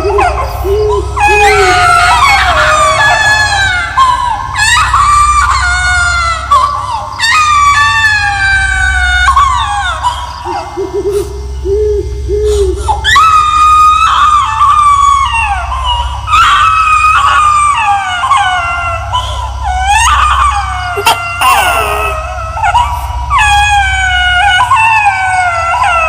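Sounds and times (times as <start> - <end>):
high-pitched wailing cries: 0.0 - 26.0
low droning hum: 0.0 - 26.0.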